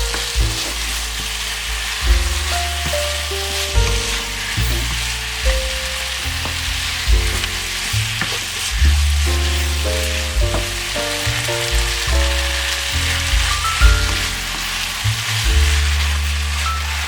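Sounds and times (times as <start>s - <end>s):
music with deep bass: 0.0s - 17.0s
stir-fry sizzling in a pan: 0.0s - 17.0s.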